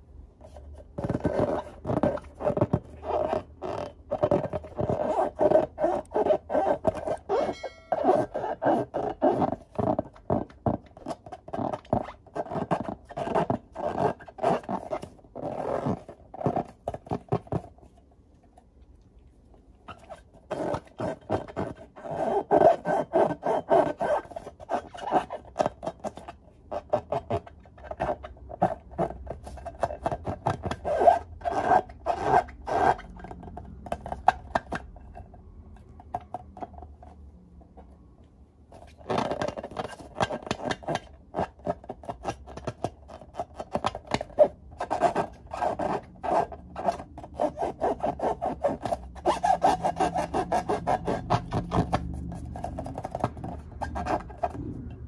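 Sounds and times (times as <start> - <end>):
hands rubbing latex balloons: 0.4 - 18.0, 19.8 - 34.8, 38.7 - 55.0.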